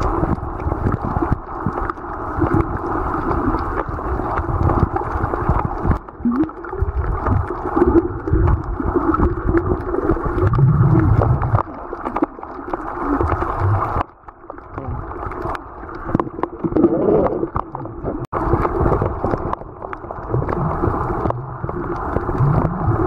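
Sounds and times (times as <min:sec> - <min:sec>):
water sloshing underwater: 0:00.0 - 0:23.0.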